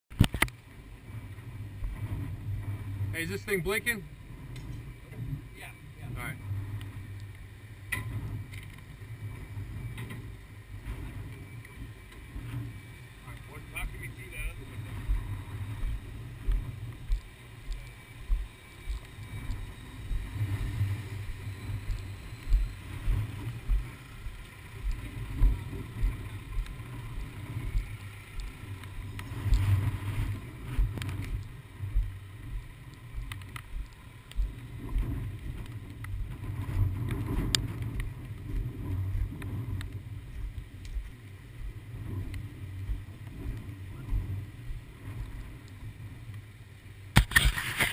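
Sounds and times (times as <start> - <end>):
wind buffeting microphone: 0.1 - 47.9.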